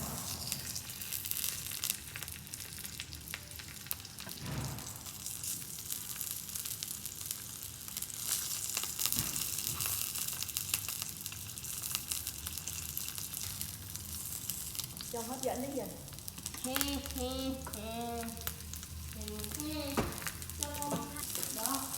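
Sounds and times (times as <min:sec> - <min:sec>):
sausages sizzling in a frying pan: 0:00.0 - 0:21.9.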